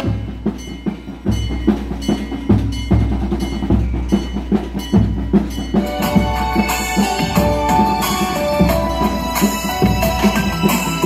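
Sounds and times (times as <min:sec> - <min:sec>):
fast clacking percussion: 0:00.0 - 0:11.0.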